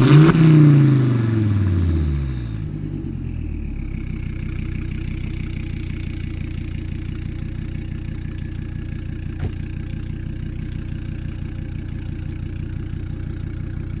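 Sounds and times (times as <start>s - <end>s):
car exhaust idling: 0.0s - 14.0s.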